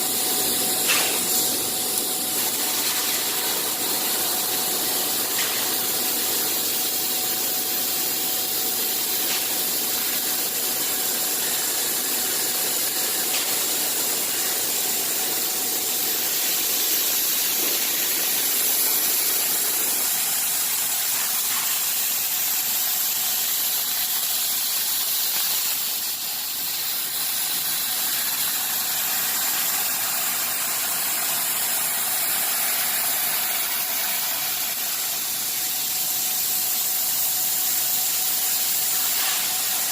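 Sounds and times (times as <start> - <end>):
machine hiss: 0.0 - 39.9.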